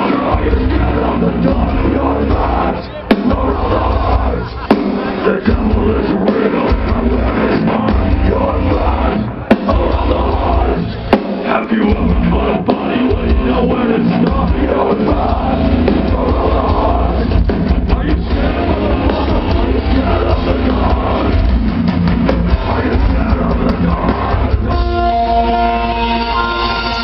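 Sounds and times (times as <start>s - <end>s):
distorted guitars: 0.0s - 27.0s
drums: 0.0s - 27.0s
heavy bass: 0.0s - 27.0s.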